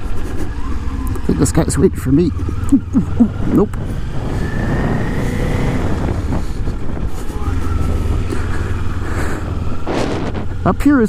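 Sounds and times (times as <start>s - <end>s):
motorcycle engine rumble: 0.0s - 11.0s
road and wind noise: 0.0s - 11.0s.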